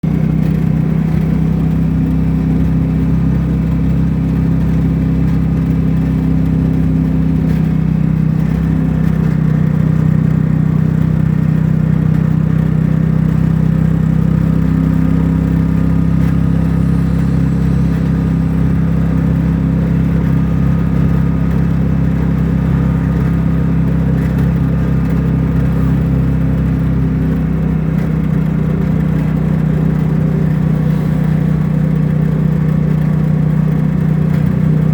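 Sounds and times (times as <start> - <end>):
vehicle engine droning: 0.0 - 34.9.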